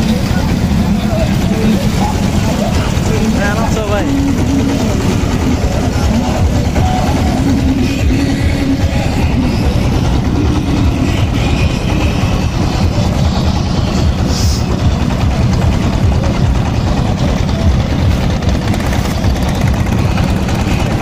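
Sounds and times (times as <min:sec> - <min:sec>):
engine running with low rumble: 0:00.0 - 0:21.0.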